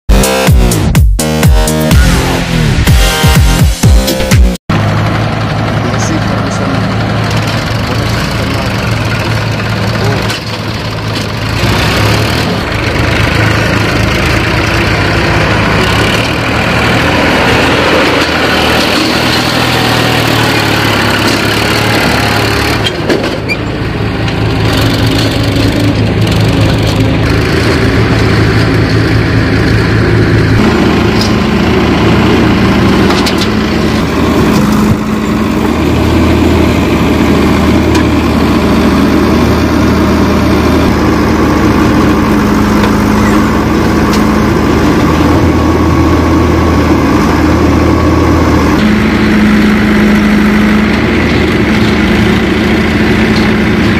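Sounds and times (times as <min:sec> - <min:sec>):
backhoe loader diesel engine: 0:00.1 - 0:53.9
tractor diesel engine under load: 0:00.1 - 0:53.9.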